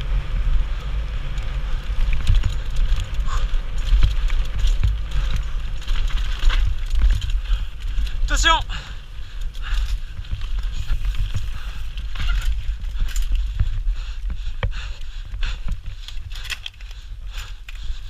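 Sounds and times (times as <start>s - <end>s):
bike rattling over bumps: 0.0s - 18.0s.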